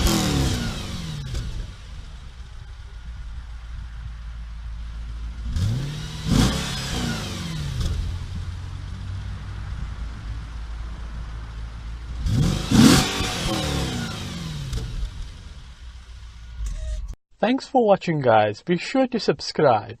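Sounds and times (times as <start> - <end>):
car engine idling and revving: 0.0 - 17.2.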